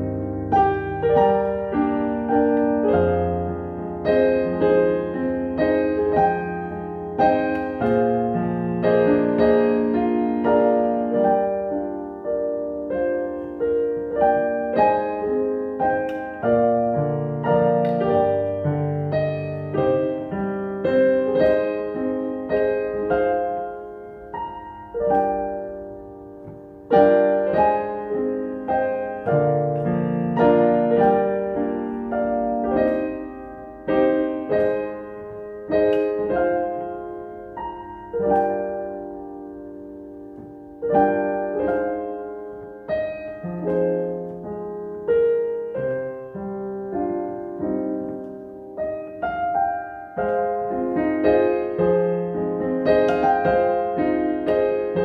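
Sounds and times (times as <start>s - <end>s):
piano chords ringing: 0.0s - 55.0s.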